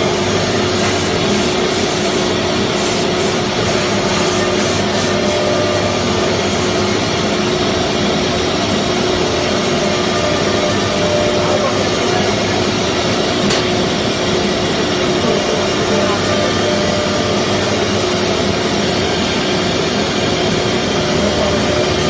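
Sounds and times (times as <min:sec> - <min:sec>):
cnc router running: 0:00.0 - 0:22.0
high spindle whine: 0:00.0 - 0:22.0.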